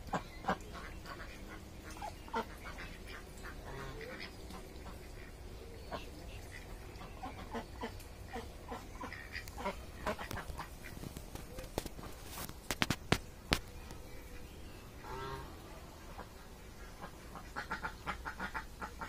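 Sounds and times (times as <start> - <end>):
ducks quacking: 0.0 - 12.2, 14.3 - 19.0.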